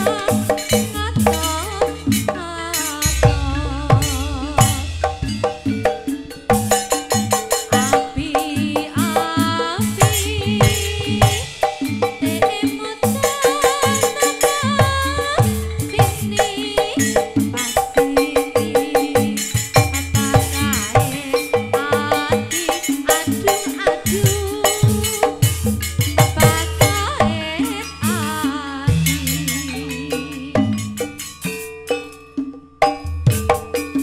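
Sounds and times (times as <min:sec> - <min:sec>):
low held tone: 0:00.0 - 0:12.4, 0:13.2 - 0:32.1
percussion ensemble music: 0:00.0 - 0:34.0
wavering melody line: 0:00.0 - 0:34.0.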